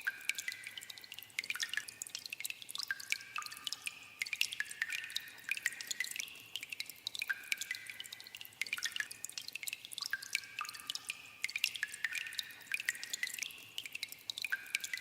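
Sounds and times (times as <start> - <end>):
water dripping in a cave: 0.0 - 15.0.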